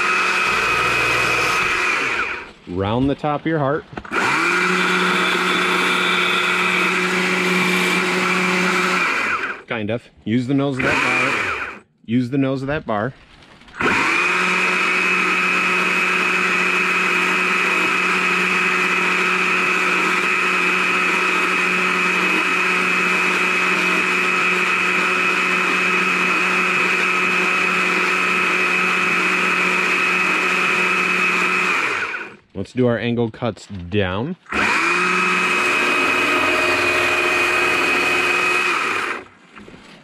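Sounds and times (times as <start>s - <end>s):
chainsaw cutting wood: 0.0s - 2.6s, 4.0s - 9.6s, 10.8s - 11.8s, 13.8s - 32.4s, 34.5s - 39.4s.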